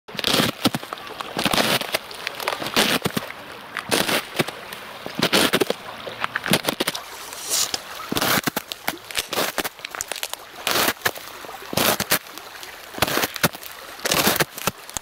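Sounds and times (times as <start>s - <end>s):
footsteps crunching on ice: 0.1s - 15.0s.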